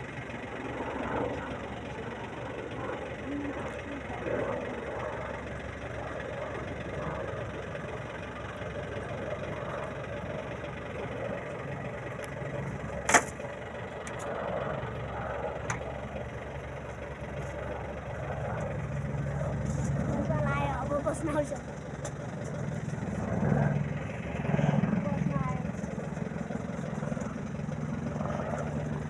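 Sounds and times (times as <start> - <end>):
distant helicopter drone: 0.0 - 29.0.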